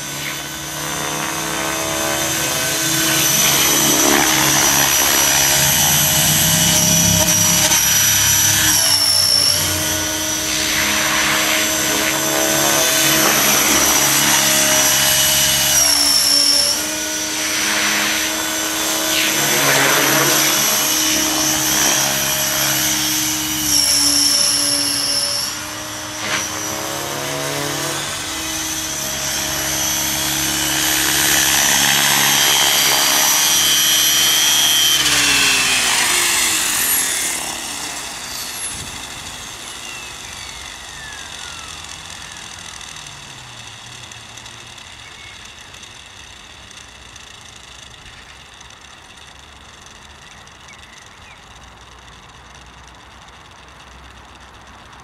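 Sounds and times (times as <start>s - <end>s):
rc helicopter motor whine: 0.0s - 55.0s.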